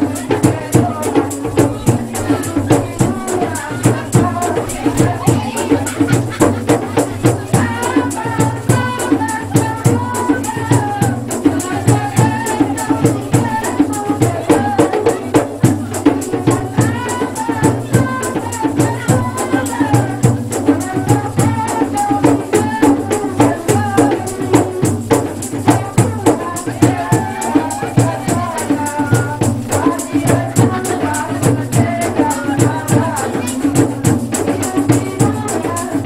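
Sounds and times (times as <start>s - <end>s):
shaker or tambourine strikes: 0.0s - 36.0s
woman singing into a microphone: 0.0s - 36.0s.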